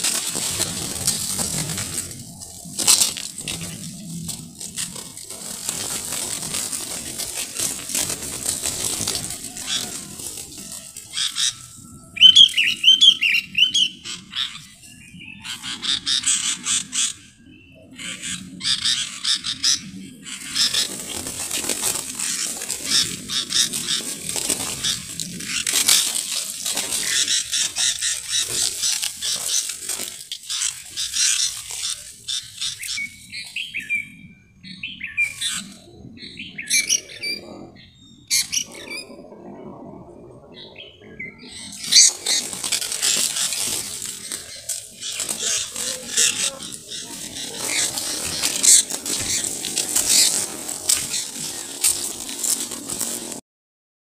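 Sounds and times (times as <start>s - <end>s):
wings flapping in dry leaves: 0.0s - 17.1s, 17.9s - 34.0s, 34.9s - 35.8s, 38.3s - 40.6s, 41.2s - 53.4s
wavering bird calls: 0.0s - 53.4s.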